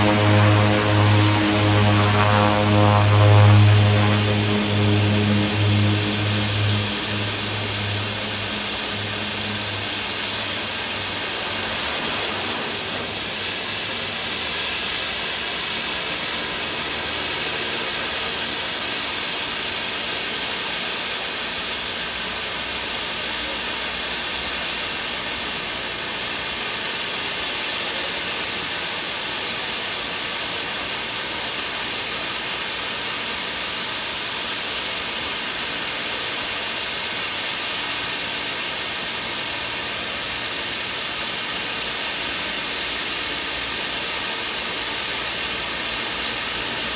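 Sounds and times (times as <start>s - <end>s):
propeller plane drone: 0.0s - 46.9s.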